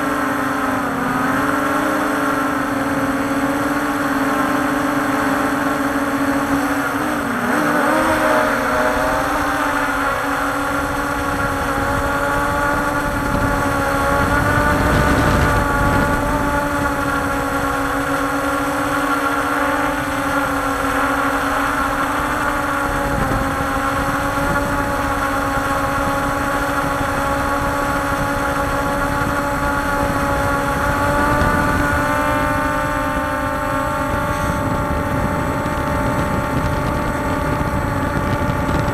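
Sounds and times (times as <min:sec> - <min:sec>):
quadcopter motors whining: 0:00.0 - 0:38.9
wind rumbling on microphone: 0:00.0 - 0:38.9.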